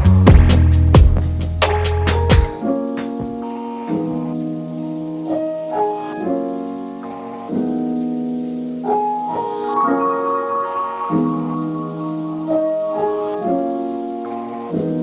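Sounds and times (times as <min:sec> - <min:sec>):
soft piano chords: 0:02.4 - 0:15.0.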